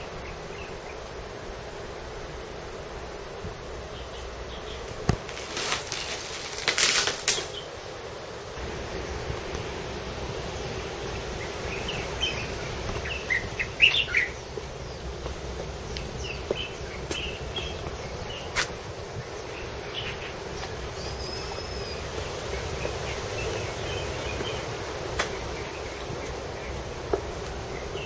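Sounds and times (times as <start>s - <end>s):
small birds chirping: 0.0s - 2.3s, 3.2s - 8.1s, 8.7s - 28.0s
outdoor background hiss: 0.0s - 28.0s.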